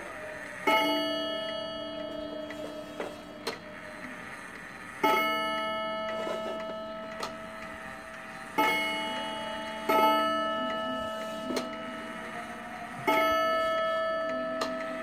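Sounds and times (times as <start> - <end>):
wall clock gong ringing: 0.0 - 15.0.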